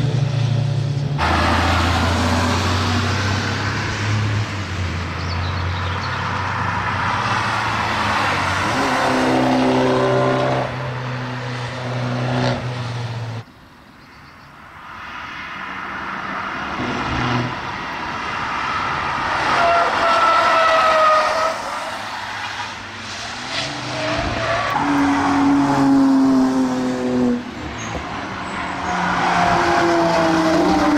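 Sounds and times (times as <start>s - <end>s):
race cars passing: 0.0s - 13.4s, 14.6s - 30.9s.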